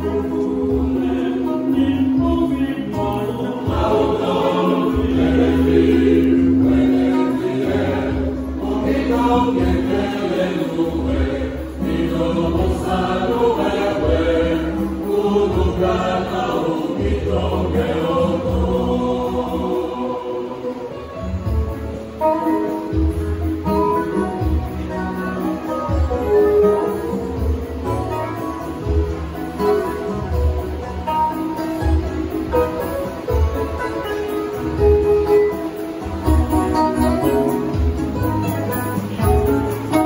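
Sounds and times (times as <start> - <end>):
choir singing a hymn: 0.0 - 33.6
low accompaniment: 0.0 - 40.0.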